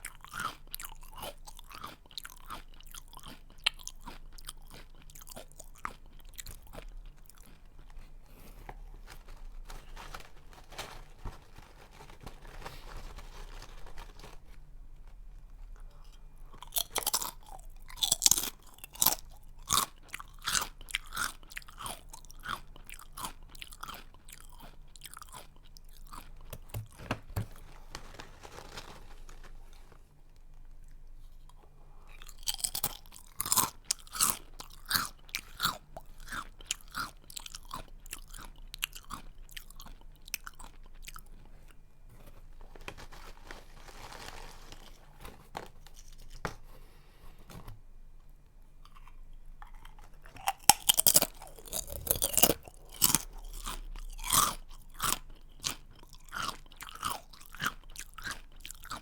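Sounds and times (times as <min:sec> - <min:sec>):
chewing crunchy snack: 0:00.0 - 0:14.6, 0:15.5 - 0:27.0, 0:28.5 - 0:46.5, 0:48.7 - 0:59.0.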